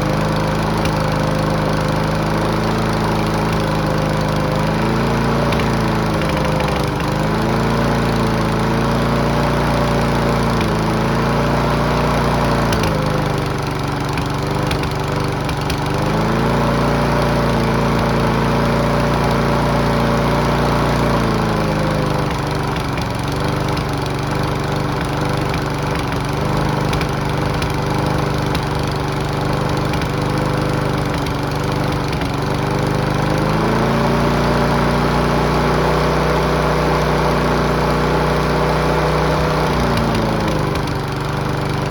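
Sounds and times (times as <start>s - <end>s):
lawnmower engine running: 0.0s - 41.9s.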